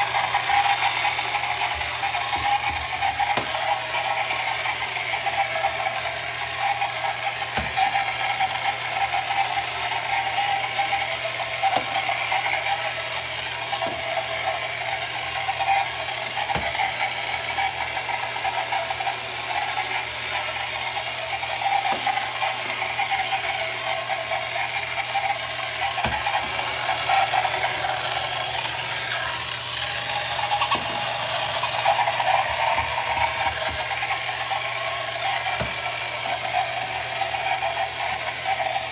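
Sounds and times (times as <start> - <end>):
toy boat motor whirring: 0.0 - 38.9.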